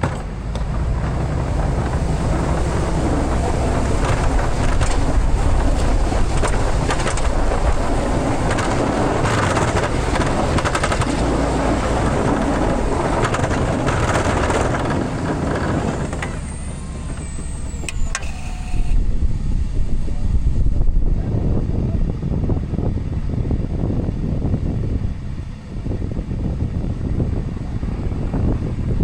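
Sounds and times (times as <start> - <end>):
pickup truck road noise: 0.0 - 29.0.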